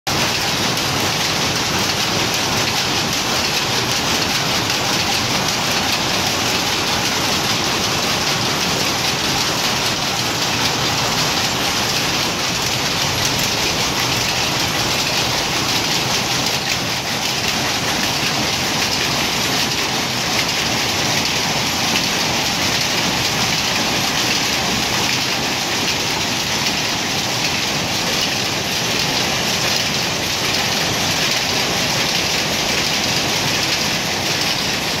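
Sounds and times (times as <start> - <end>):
power loom clattering: 0.1 - 35.0.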